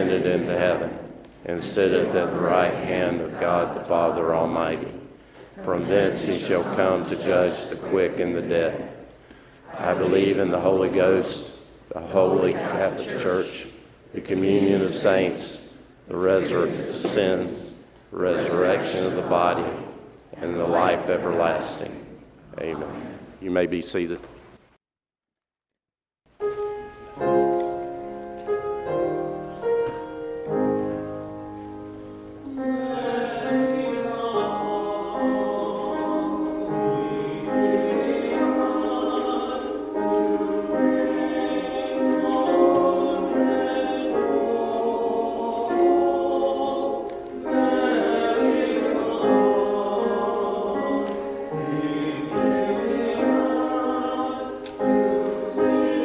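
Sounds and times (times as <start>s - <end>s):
church choir singing: 0.0s - 24.1s, 27.2s - 56.0s.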